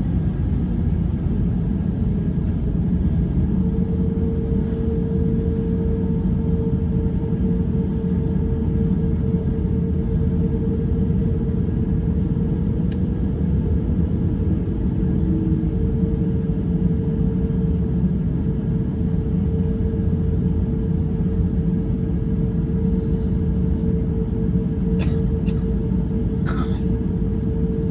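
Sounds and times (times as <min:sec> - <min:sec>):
airplane cabin engine drone: 0:00.0 - 0:27.9
constant hum: 0:00.0 - 0:27.9.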